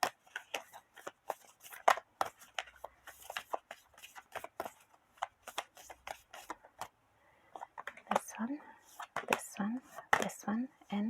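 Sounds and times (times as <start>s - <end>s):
cards being shuffled: 0.0s - 7.0s, 7.6s - 10.4s.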